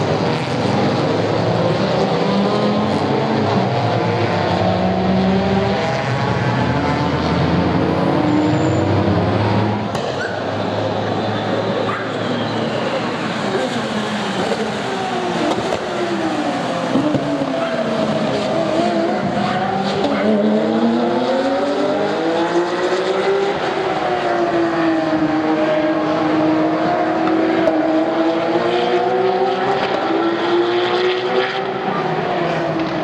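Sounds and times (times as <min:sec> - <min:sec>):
racing car engines: 0:00.0 - 0:33.0.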